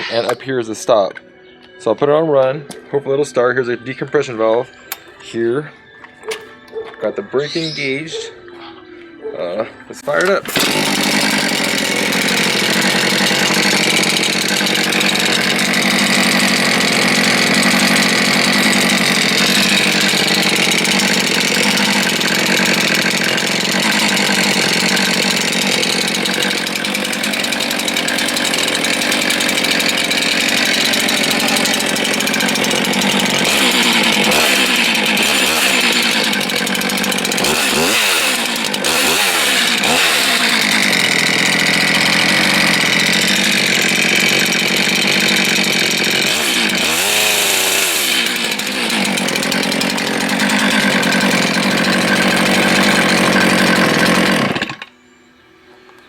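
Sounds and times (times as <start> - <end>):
chainsaw running and revving: 10.0 - 54.9.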